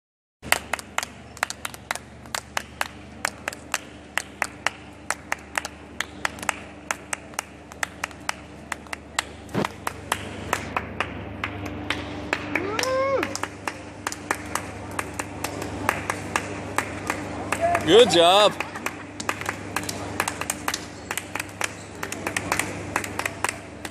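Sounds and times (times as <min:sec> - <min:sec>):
hand clapping: 0:00.4 - 0:23.9
steady low hum: 0:00.4 - 0:23.9.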